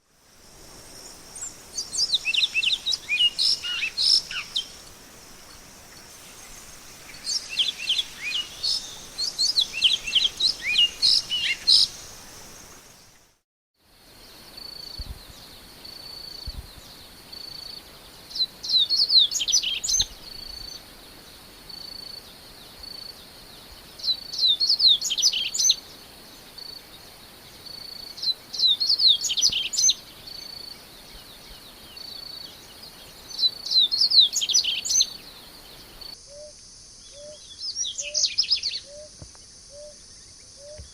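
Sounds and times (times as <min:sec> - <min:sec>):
songbird singing: 0:00.0 - 0:13.4, 0:14.2 - 0:40.9.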